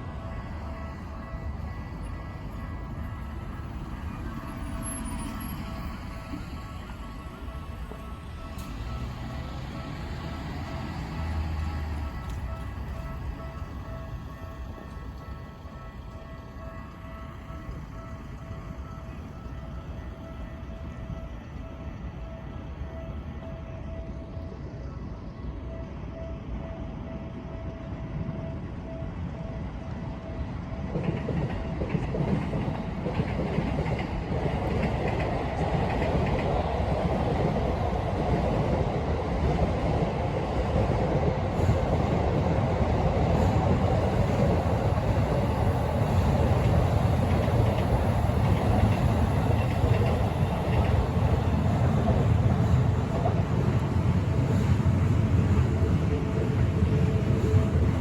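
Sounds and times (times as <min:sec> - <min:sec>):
train rumble and wheel clatter: 0:00.0 - 0:58.0.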